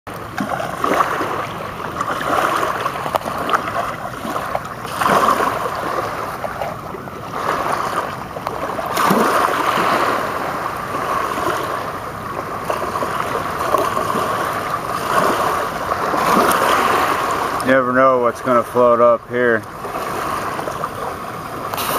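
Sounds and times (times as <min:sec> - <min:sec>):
river water lapping at shore: 0:00.1 - 0:21.9.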